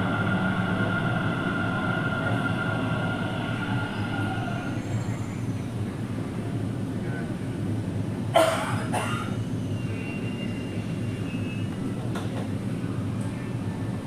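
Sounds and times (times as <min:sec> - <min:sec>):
train high whine: 0:00.0 - 0:14.0
train rumbling: 0:00.0 - 0:14.0.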